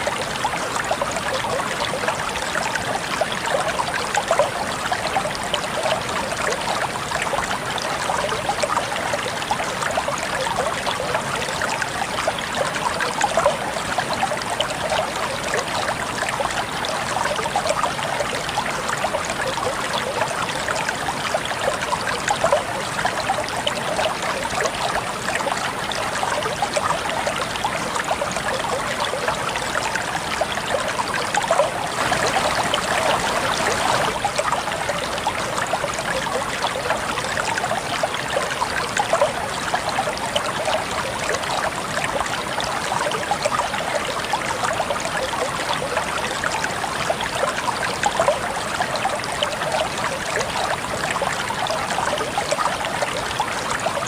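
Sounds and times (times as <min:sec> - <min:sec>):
stream splashing over stones: 0:00.0 - 0:54.0.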